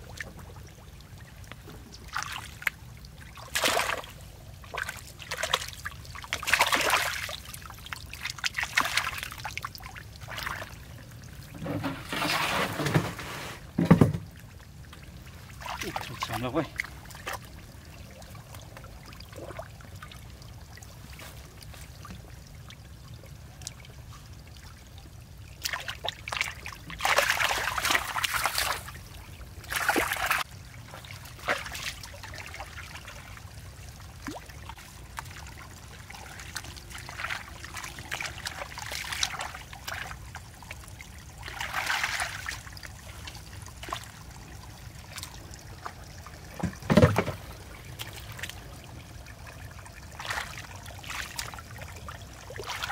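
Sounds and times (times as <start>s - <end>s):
water trickling: 0.0s - 13.0s, 13.6s - 52.9s
hands and feet splashing water: 1.7s - 10.8s, 13.9s - 20.1s, 25.5s - 52.9s.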